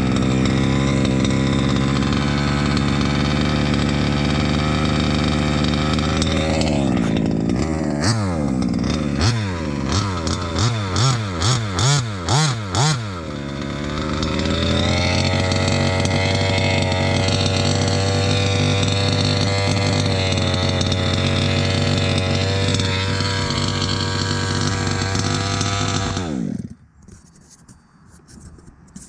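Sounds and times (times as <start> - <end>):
small two-stroke engine running: 0.0 - 26.8.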